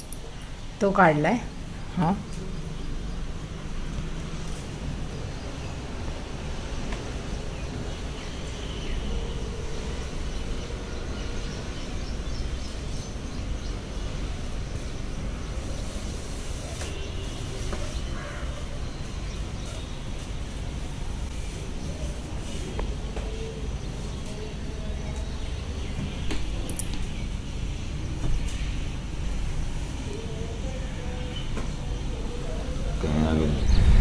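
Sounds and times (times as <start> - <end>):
low rumbling background noise: 0.0 - 34.0.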